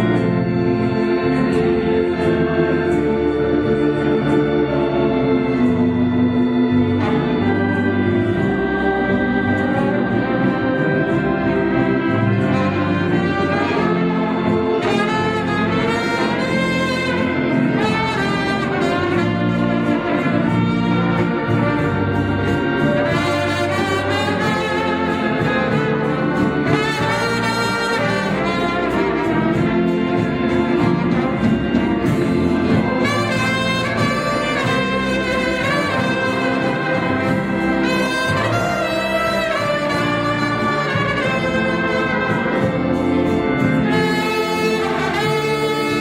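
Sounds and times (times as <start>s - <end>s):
brass-led orchestral music: 0.0s - 46.0s.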